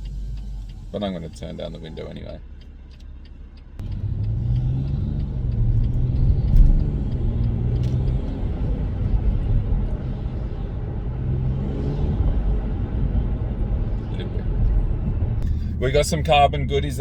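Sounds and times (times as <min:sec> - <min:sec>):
car engine humming: 0:00.0 - 0:17.0
road and wind rumble: 0:00.0 - 0:17.0.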